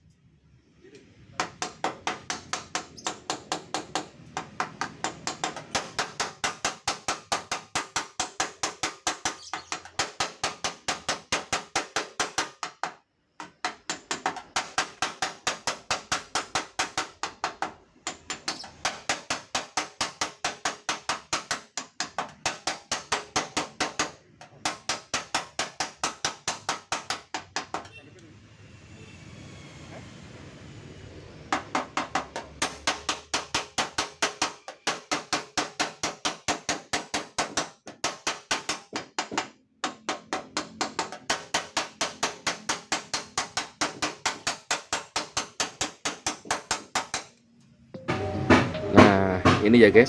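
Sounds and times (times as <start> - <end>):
hammer tapping on sheet metal: 1.4 - 28.0, 31.5 - 47.4, 48.0 - 50.0.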